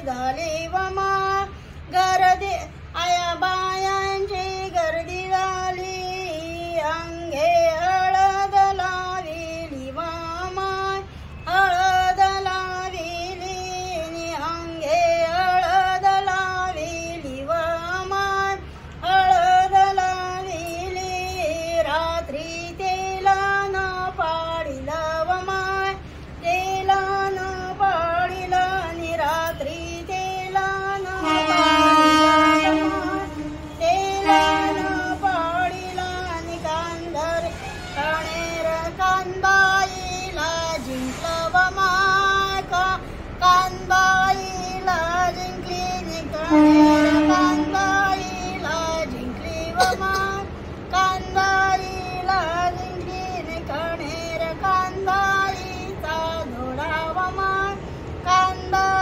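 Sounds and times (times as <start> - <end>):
women singing devotional song: 0.0 - 59.0.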